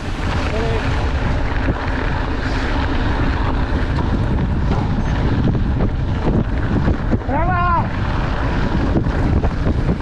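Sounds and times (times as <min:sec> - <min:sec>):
bike knocking and rattling: 0:00.0 - 0:10.0
bike tyres rolling on gravel: 0:00.0 - 0:10.0
wind on microphone: 0:00.0 - 0:10.0.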